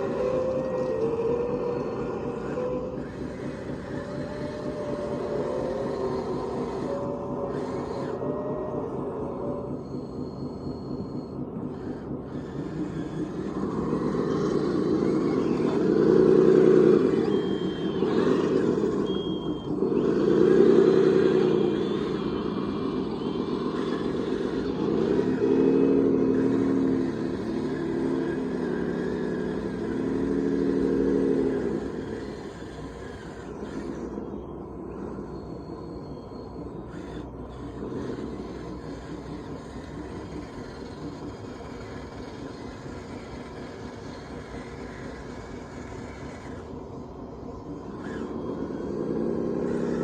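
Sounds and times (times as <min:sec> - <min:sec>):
model machine motor running: 0:00.0 - 0:50.0.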